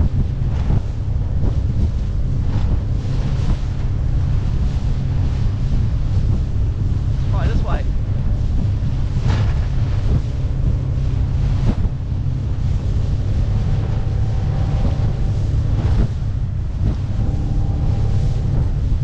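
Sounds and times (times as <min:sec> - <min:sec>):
faint outboard motor: 0:00.0 - 0:19.0
water slapping against hull: 0:00.0 - 0:19.0
wind buffeting microphone: 0:00.0 - 0:19.0.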